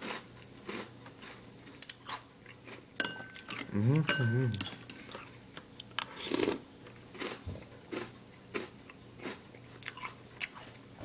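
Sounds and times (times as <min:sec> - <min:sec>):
cereal crunching and chewing: 0:00.0 - 0:02.8, 0:03.4 - 0:10.8.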